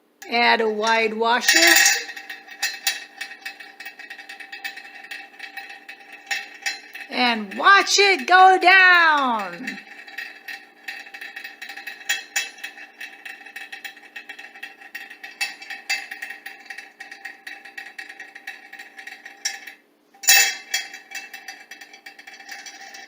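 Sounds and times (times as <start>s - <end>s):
metal washer rattling on rod: 0.2s - 23.0s
metallic ring: 0.6s - 23.0s.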